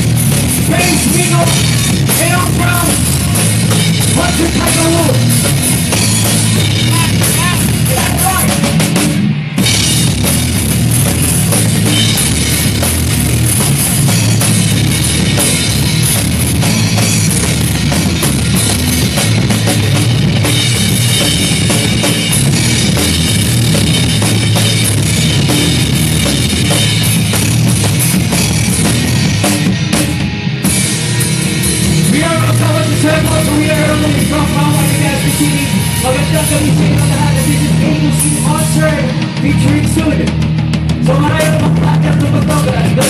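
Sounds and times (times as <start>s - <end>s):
drum kit: 0.0s - 43.0s
loud rock music: 0.0s - 43.0s.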